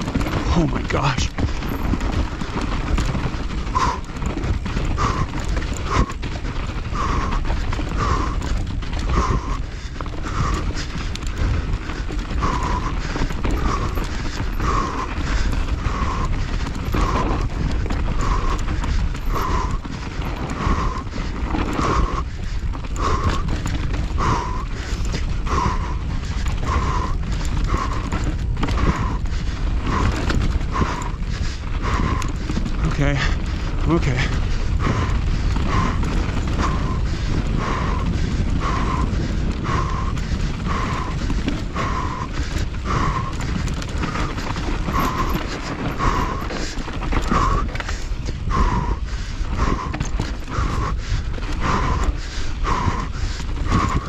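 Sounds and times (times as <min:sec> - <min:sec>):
mountain bike clattering and rattling: 0:00.0 - 0:54.0
rider panting: 0:00.0 - 0:54.0
wind rumbling on microphone: 0:00.0 - 0:54.0.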